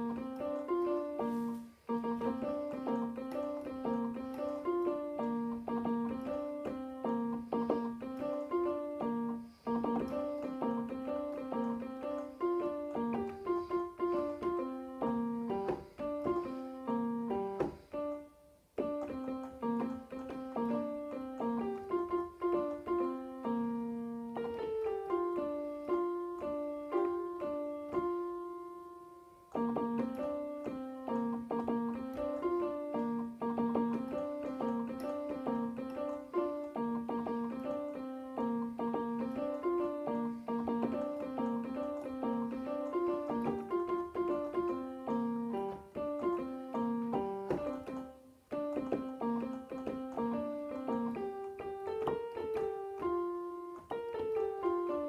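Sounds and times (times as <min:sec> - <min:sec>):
digital piano playing: 0:00.0 - 0:55.0.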